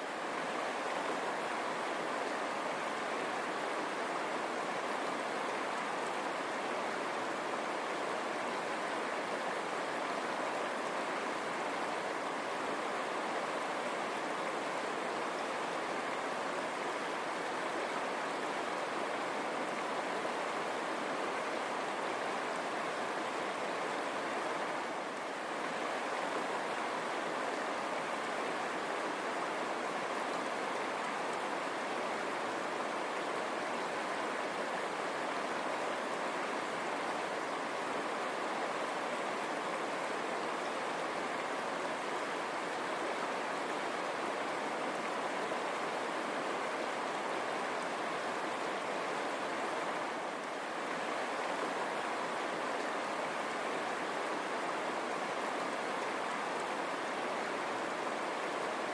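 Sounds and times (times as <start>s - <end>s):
river water running over stones: 0.0s - 58.9s.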